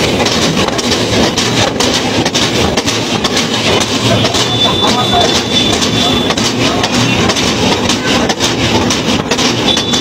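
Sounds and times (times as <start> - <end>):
roadside traffic noise: 0.0 - 10.0.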